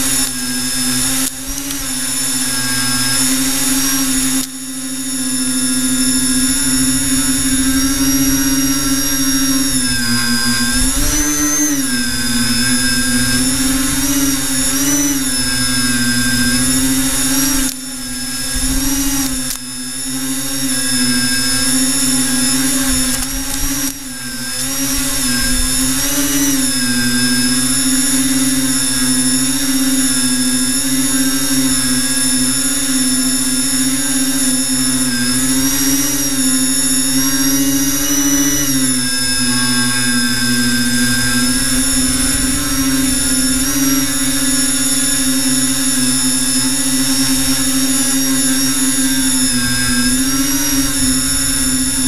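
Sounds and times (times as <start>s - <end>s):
drone propellers whining: 0.0s - 52.0s.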